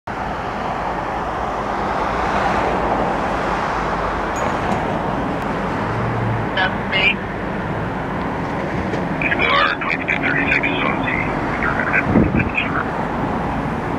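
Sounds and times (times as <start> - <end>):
road traffic: 0.1 - 13.9.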